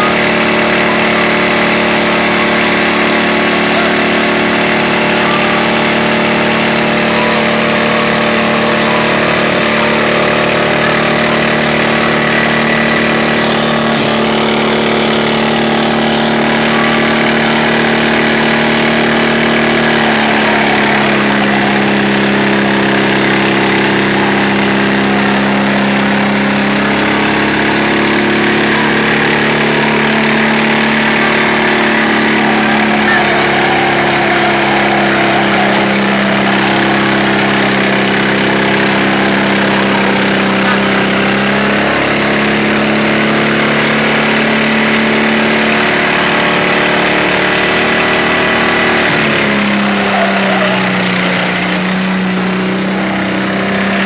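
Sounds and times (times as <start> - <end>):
riding lawn mower engines running: 0.0 - 54.0.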